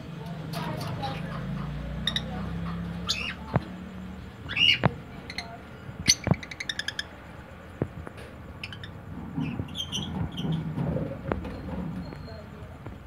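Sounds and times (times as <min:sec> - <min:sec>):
lovebirds chirping: 0:00.2 - 0:12.7.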